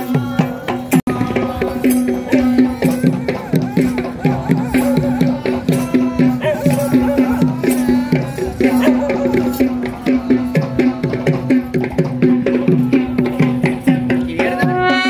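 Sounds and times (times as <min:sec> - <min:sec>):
fast drum strokes: 0:00.0 - 0:15.0.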